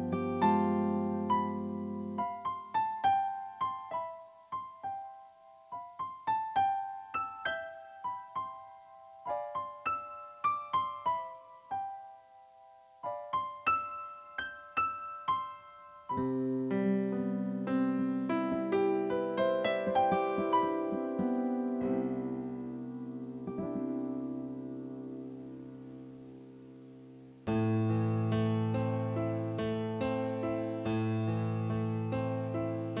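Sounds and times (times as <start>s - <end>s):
slow keyboard melody: 0.0s - 33.0s.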